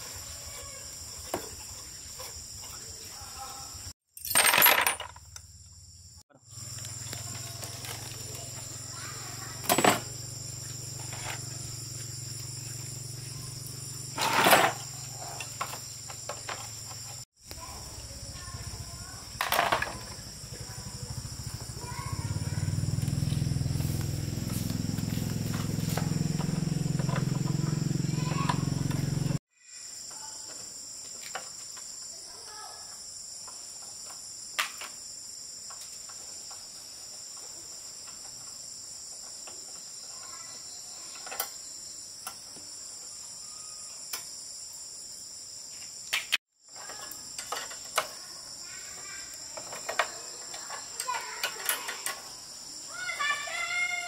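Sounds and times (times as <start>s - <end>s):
high-pitched insect chorus: 0.0s - 4.0s, 4.6s - 54.0s.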